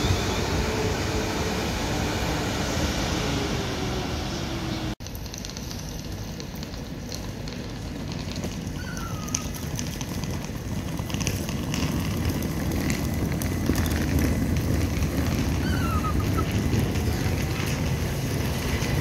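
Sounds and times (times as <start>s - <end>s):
electric train running rumble: 0.0s - 5.0s, 7.7s - 19.0s.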